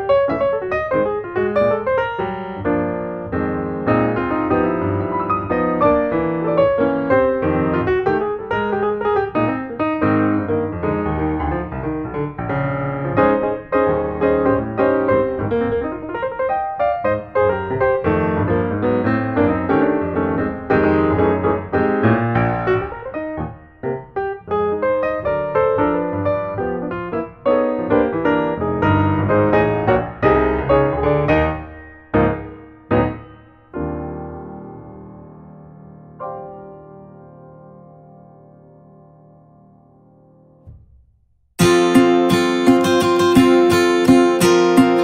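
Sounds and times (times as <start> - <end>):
slow piano chords: 0.0 - 40.8.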